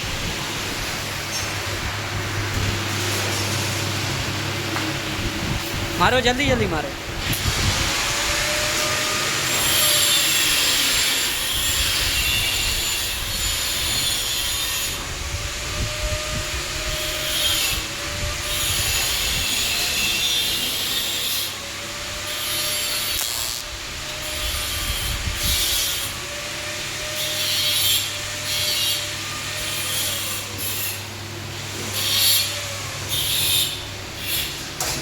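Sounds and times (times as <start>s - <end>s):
welding arc crackling and hissing: 0.0s - 29.0s.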